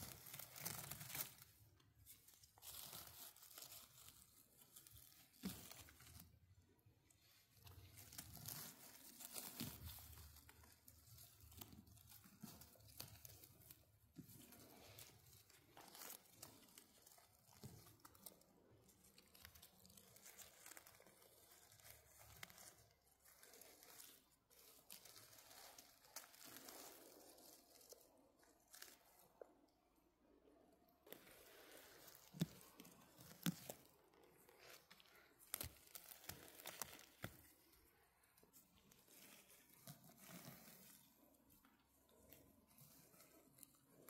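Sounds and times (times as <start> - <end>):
rustling of forest-floor litter: 0.0 - 6.4, 7.1 - 29.5, 31.0 - 44.0.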